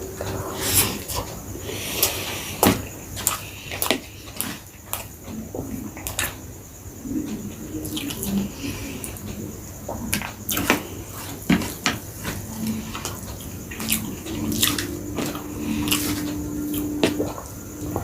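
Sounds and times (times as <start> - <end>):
low steady hum: 0.0 - 18.0
person chewing food: 0.1 - 6.4, 7.0 - 18.0.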